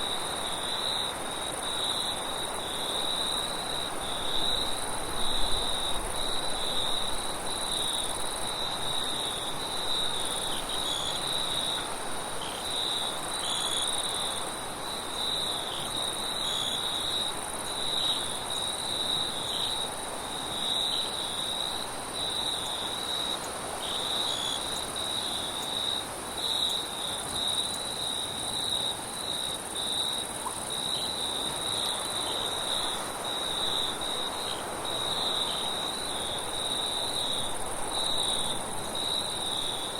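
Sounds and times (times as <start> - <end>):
crickets trilling: 0.0 - 39.9
high insect hiss: 0.0 - 39.9.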